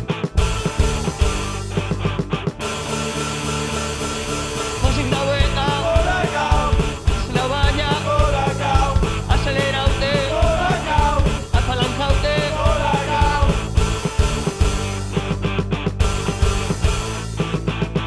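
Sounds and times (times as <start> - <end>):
punk rock band playing: 0.0 - 18.0.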